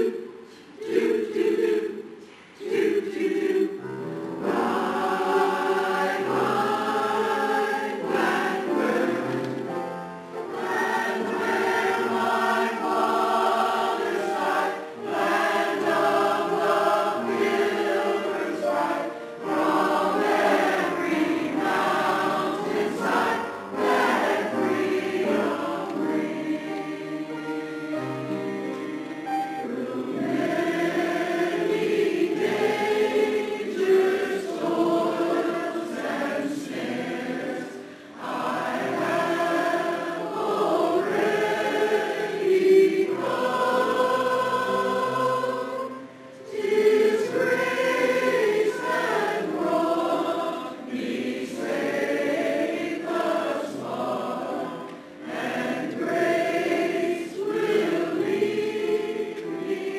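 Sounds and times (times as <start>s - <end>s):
chorus singing in harmony: 0.0s - 59.9s.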